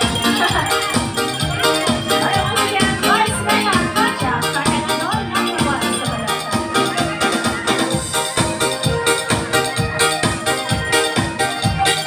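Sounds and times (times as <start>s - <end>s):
upbeat music: 0.0s - 12.0s.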